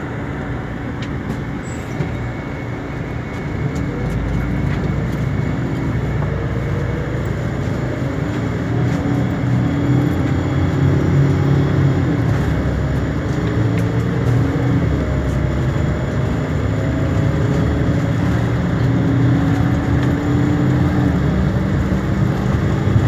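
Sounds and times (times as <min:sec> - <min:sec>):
bus engine hum: 0:00.0 - 0:23.0
road noise: 0:00.0 - 0:23.0.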